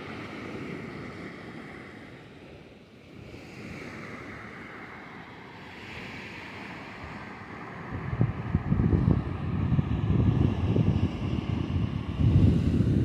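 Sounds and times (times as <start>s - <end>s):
waves washing up a shore: 0.0s - 13.0s.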